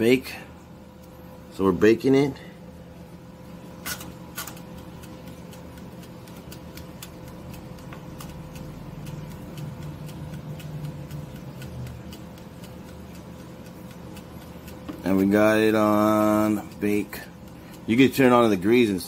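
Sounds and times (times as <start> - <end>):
low steady hum: 0.0 - 19.0
mechanical timer ticking: 3.4 - 19.0.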